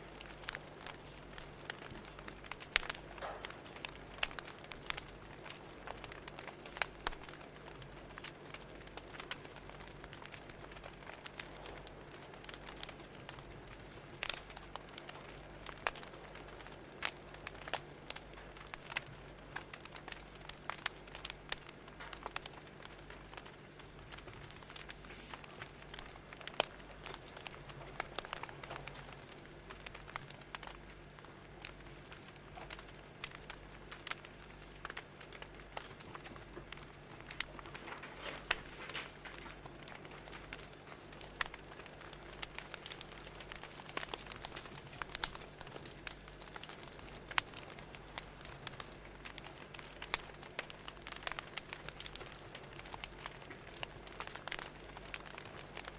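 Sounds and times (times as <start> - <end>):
fire crackling and popping: 0.0 - 55.9
low steady hum: 0.0 - 55.9
soft steady hiss: 0.0 - 55.9.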